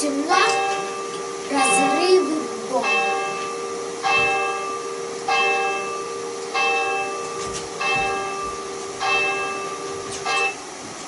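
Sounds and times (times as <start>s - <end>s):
large bell tolling: 0.0s - 10.8s
steady hum: 0.0s - 11.0s.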